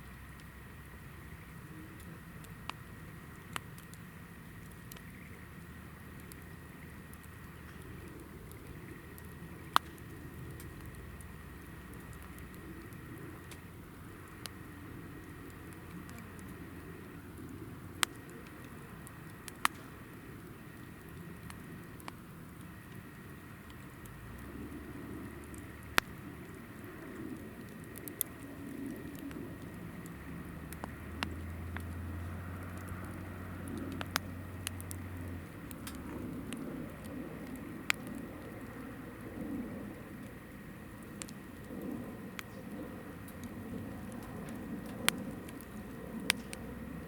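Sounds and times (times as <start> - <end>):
fire flame rumble: 0.0 - 47.0
low steady hum: 0.0 - 47.0
small fire snaps: 0.0 - 47.0.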